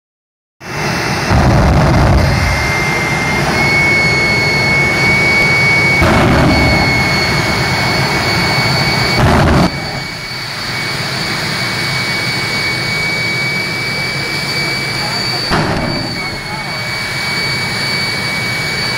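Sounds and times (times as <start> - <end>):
jet engine whine: 0.6 - 18.9
rush of jet exhaust: 0.6 - 18.9.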